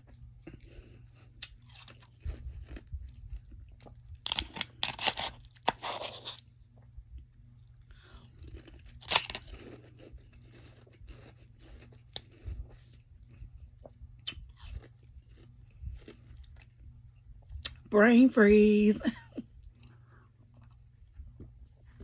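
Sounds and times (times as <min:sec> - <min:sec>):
chewing crunchy frost: 0:00.0 - 0:17.8, 0:19.4 - 0:22.0.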